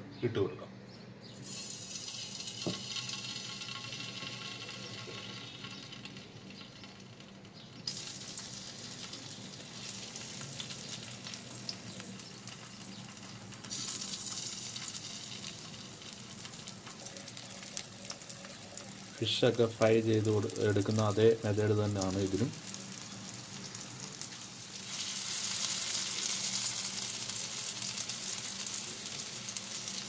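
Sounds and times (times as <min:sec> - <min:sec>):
potato slices sizzling in oil: 0:01.4 - 0:30.0.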